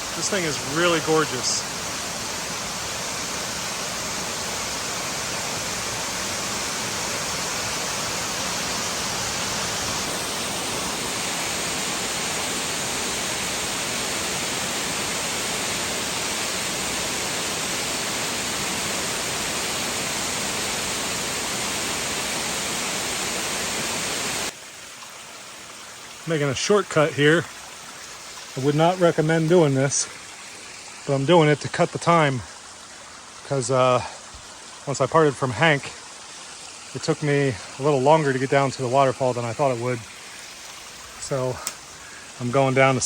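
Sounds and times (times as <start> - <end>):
waterfall pouring: 0.0 - 43.0.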